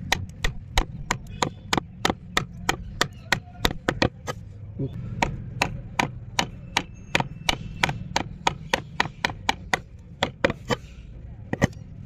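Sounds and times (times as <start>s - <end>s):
chisel chopping into wood: 0.0s - 4.3s, 5.2s - 10.8s.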